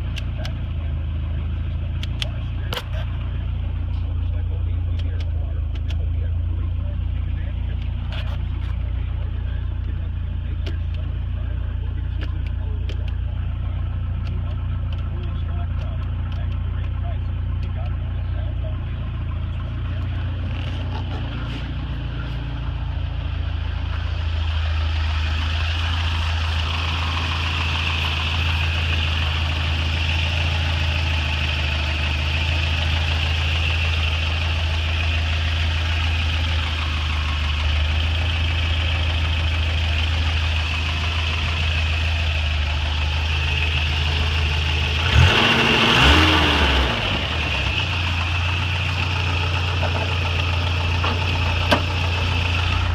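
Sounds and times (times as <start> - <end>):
car engine running steadily: 0.0 - 52.9.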